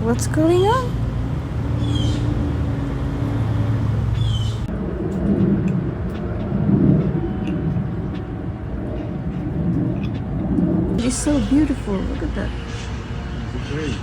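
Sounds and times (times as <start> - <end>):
engine hum: 0.0 - 14.0.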